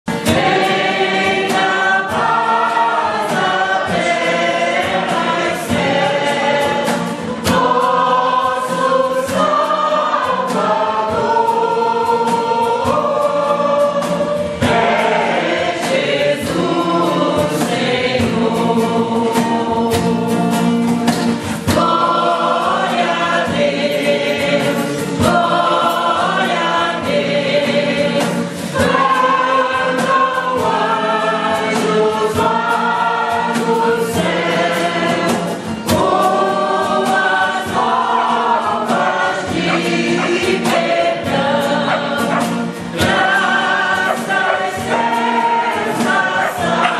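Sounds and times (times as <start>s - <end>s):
choir singing long notes: 0.1s - 20.7s, 21.5s - 46.9s.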